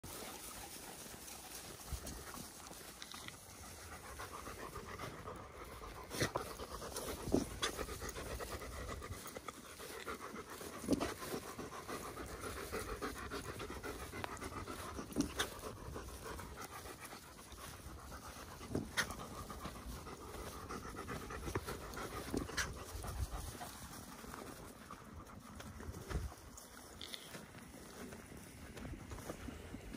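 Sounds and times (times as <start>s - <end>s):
dogs panting: 0.0s - 29.9s.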